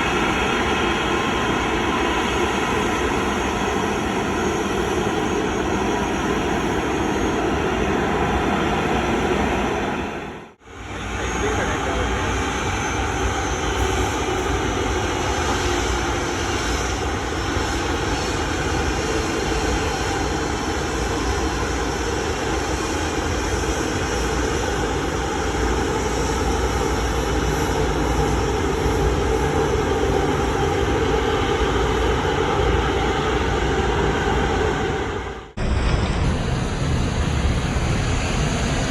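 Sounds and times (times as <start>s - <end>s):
airliner engines running: 0.0s - 38.9s.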